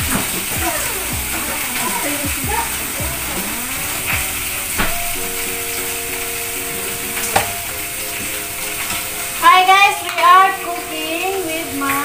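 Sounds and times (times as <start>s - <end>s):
background music: 0.0s - 12.0s
food sizzling in a pan: 0.0s - 12.0s.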